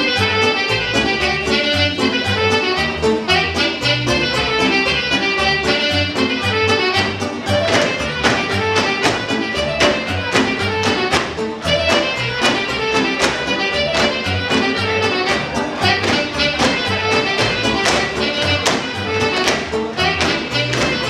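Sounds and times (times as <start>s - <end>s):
lively folk dance music: 0.0s - 21.0s.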